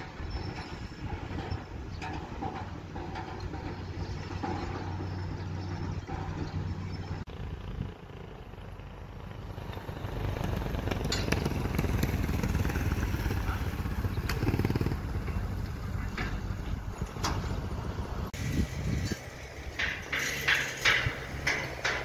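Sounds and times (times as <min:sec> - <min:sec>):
small engine chugging past: 0:00.0 - 0:22.0.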